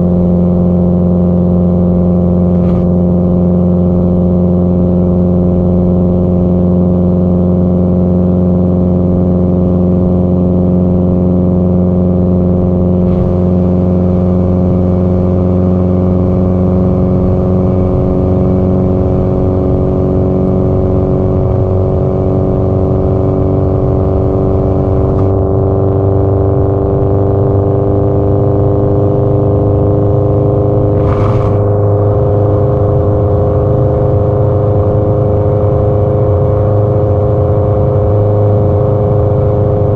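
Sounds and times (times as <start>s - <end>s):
car engine exhaust cruising: 0.0s - 39.9s.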